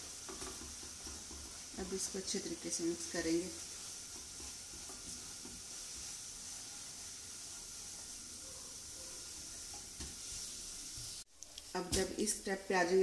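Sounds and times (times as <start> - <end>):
faint sizzling in a frying pan: 0.0 - 13.0.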